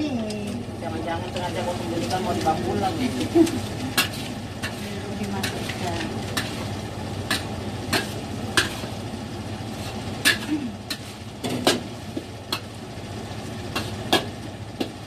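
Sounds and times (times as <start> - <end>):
steady low hum: 0.0 - 15.0
metal utensil scraping a wok: 1.4 - 9.0, 9.6 - 12.7, 13.6 - 15.0.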